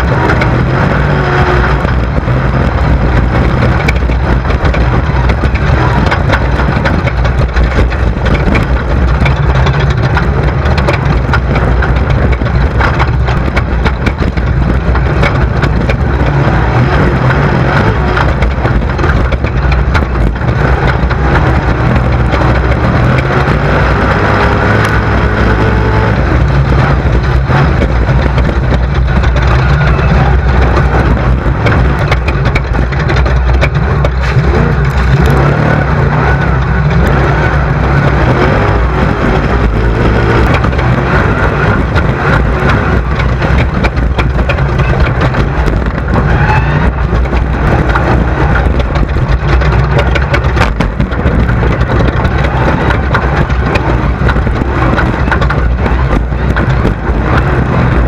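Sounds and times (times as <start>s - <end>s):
buggy engine running loud: 0.0s - 58.0s
chassis and stones rattling: 0.0s - 58.0s.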